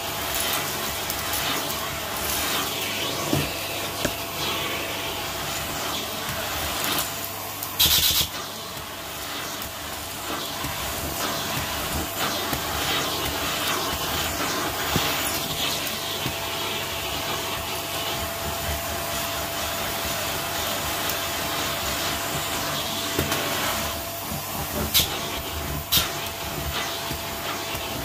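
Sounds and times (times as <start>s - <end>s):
vacuum cleaner on carpet: 0.0s - 28.0s.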